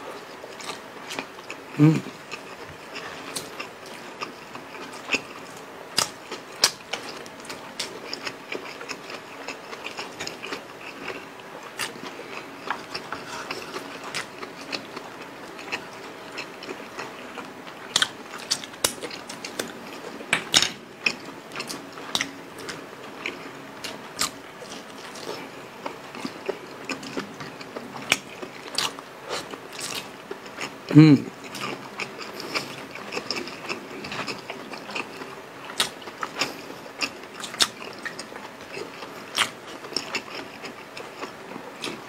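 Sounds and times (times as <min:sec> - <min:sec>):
people chewing with mouth smacks: 0:00.1 - 0:42.0.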